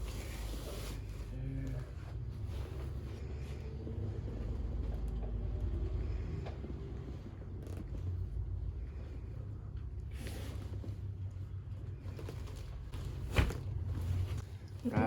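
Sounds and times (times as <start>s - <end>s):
rustling and handling sounds: 0.0s - 15.0s
steady low rumble: 1.0s - 14.8s.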